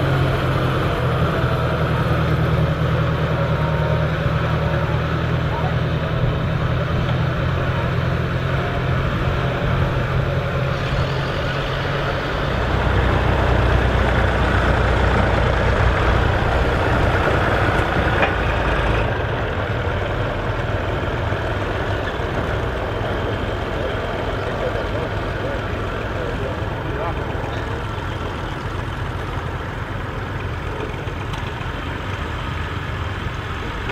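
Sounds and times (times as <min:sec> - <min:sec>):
tractor engines running: 0:00.0 - 0:33.9.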